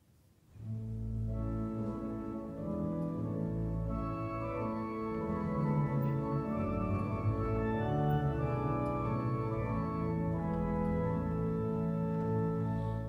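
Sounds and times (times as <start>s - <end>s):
organ playing slow chords: 0.6s - 13.0s.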